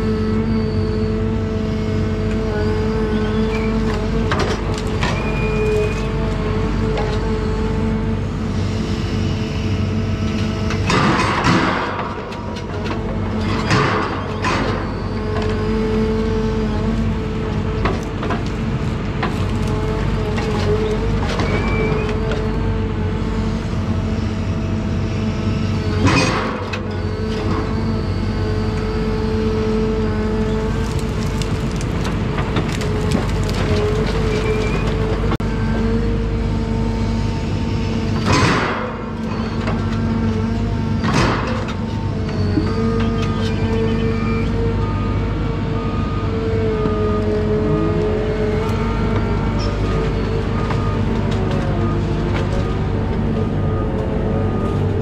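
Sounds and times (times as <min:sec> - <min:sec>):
diesel engine humming: 0:00.0 - 0:55.0
hydraulic whine: 0:00.0 - 0:55.0.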